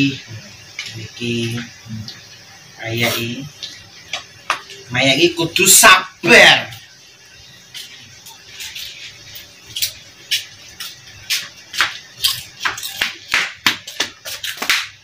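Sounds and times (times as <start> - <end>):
crackers deep-frying in oil: 0.0 - 15.0.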